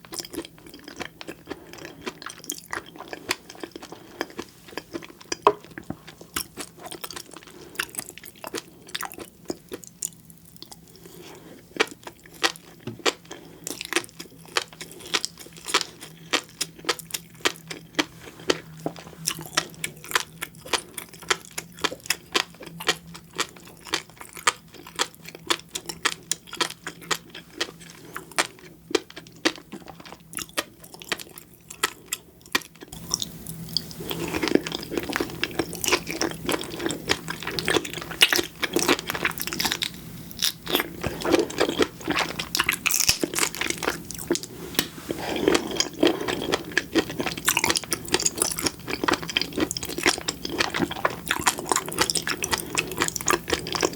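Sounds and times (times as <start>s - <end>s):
close chewing with crackles: 0.0s - 53.9s.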